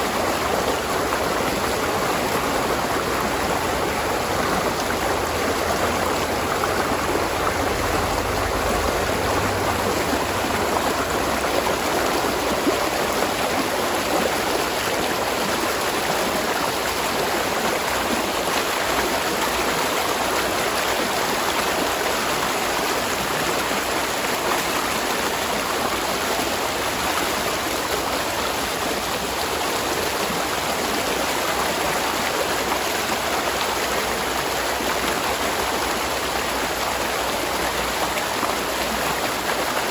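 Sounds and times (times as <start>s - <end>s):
stream water rushing and splashing: 0.0s - 39.9s.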